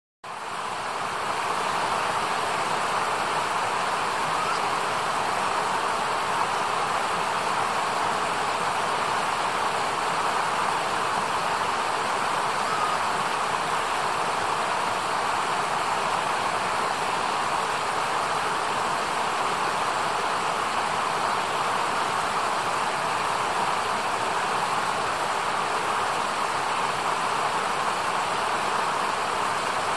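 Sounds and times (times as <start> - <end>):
river rushing over stones: 0.3 - 29.9.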